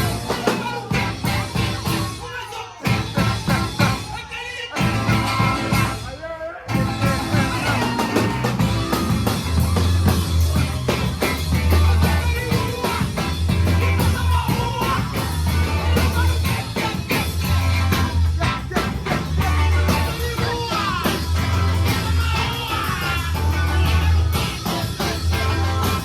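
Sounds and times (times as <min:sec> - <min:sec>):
heavy bass notes: 0:00.0 - 0:02.3, 0:02.9 - 0:04.2, 0:04.8 - 0:06.1, 0:06.7 - 0:26.0
person singing: 0:00.0 - 0:09.1, 0:11.3 - 0:26.0
drums: 0:00.0 - 0:26.0
guitar: 0:00.0 - 0:26.0.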